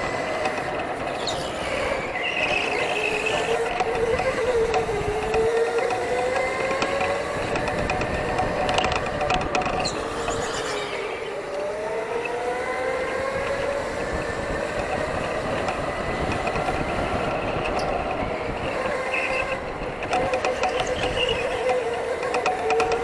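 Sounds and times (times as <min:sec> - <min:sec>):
electric go-kart motor whining: 0:00.0 - 0:23.0
kart rattle and tyre noise: 0:00.0 - 0:23.0.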